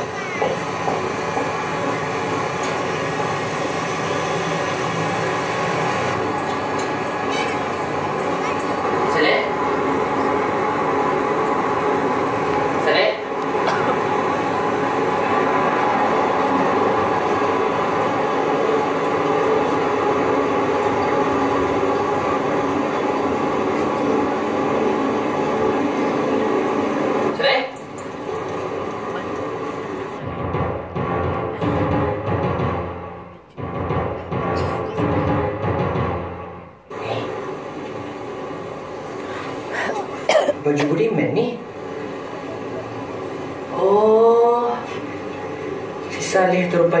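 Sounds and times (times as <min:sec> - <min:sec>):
film soundtrack through speakers: 0:00.0 - 0:47.0.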